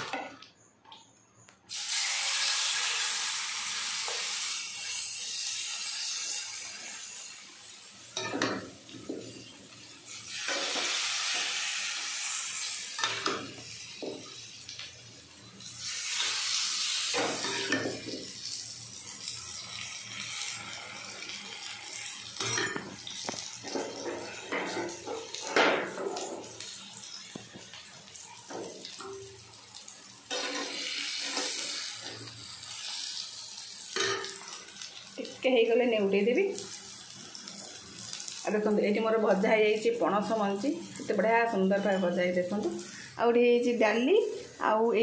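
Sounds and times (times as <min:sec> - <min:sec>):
food frying in hot oil: 0:01.7 - 0:44.0.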